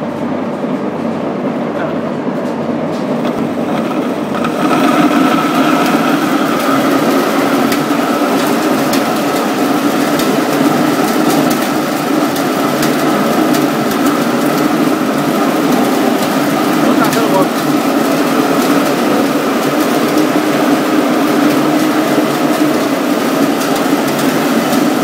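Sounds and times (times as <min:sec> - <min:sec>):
machine motor and blower hum: 0:00.0 - 0:25.0.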